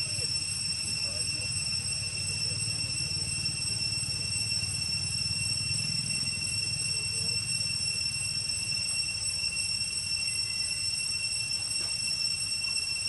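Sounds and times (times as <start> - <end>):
high-pitched insect whine: 0.0 - 13.0.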